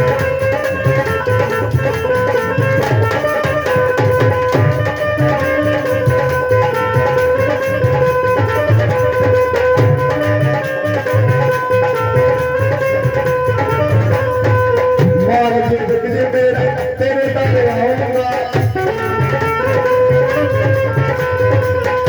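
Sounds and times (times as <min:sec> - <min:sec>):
hand drum beat: 0:00.0 - 0:22.0.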